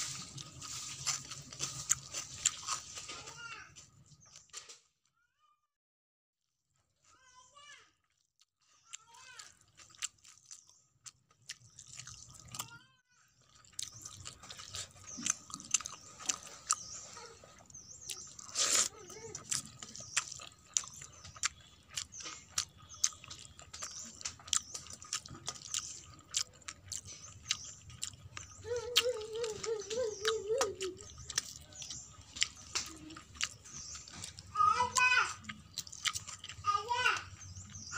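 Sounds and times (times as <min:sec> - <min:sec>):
fingers squishing wet rice: 0:00.0 - 0:03.4, 0:08.8 - 0:12.7, 0:13.5 - 0:36.6.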